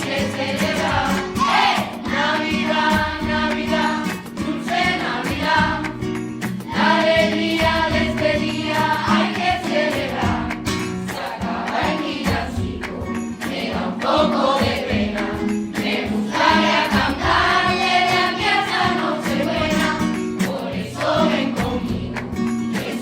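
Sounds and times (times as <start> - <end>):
children's choir singing: 0.0 - 23.0
instrumental accompaniment: 0.0 - 23.0.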